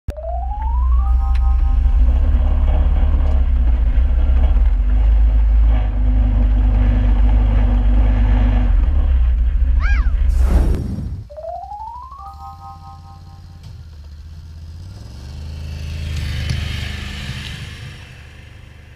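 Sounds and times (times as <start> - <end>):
vehicle engine idling: 0.7 - 10.5, 12.4 - 18.9.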